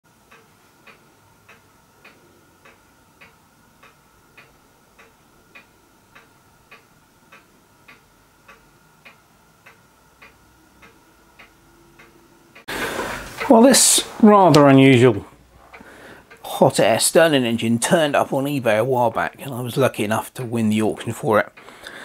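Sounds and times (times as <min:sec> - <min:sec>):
clock ticking: 0:00.1 - 0:22.0.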